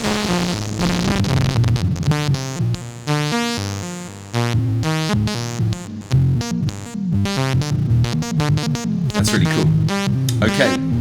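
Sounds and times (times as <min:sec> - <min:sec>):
sequenced analogue synth notes: 0:00.0 - 0:11.0.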